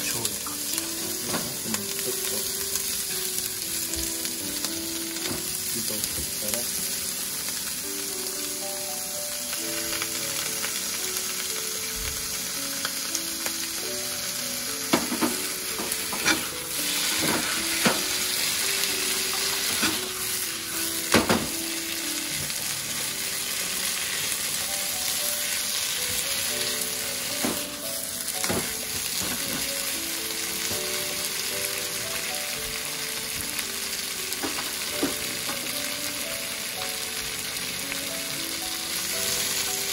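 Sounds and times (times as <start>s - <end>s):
food sizzling in oil: 0.0s - 39.9s
quiet background melody: 0.0s - 39.9s.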